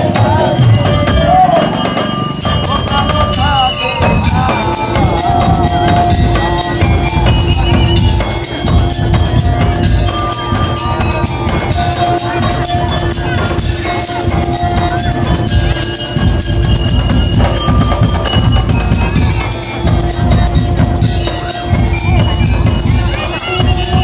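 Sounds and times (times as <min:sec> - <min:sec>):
drums beating: 0:00.0 - 0:24.0
held melody line: 0:00.0 - 0:24.0
jingling percussion: 0:00.0 - 0:24.0.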